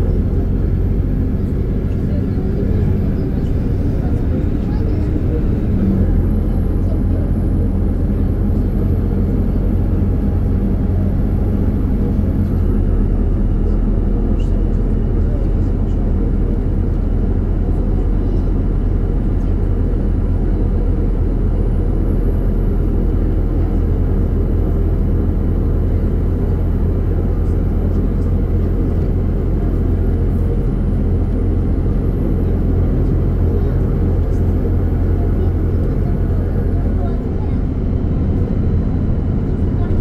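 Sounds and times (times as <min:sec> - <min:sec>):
bus engine low drone: 0:00.0 - 0:40.0
road and tyre noise: 0:00.0 - 0:40.0.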